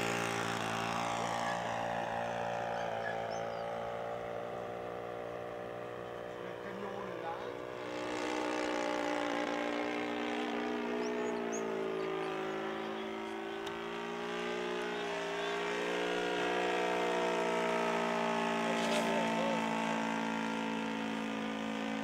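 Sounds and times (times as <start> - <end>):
model plane engine flying past: 0.0 - 22.0.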